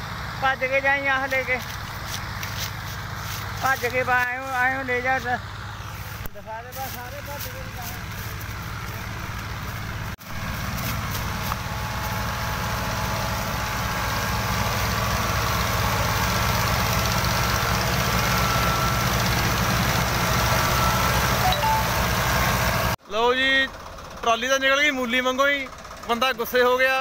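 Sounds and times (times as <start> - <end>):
tractor diesel engines rumbling: 0.0 - 27.0.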